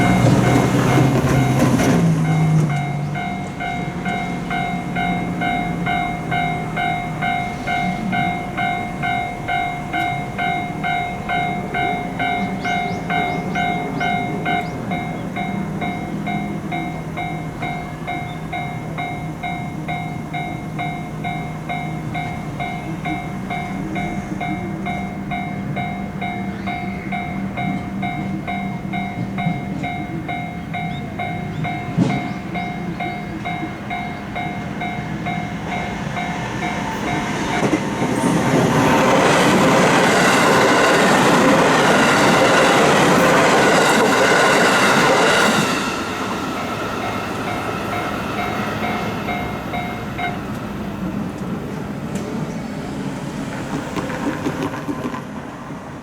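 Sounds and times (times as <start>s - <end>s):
level-crossing bell ringing: 0.0s - 51.3s
train passing: 0.0s - 56.0s.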